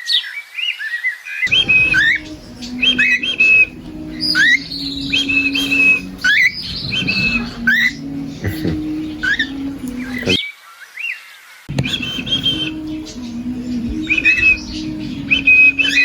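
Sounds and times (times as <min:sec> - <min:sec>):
parrot whistling: 0:01.5 - 0:10.4, 0:11.7 - 0:16.0.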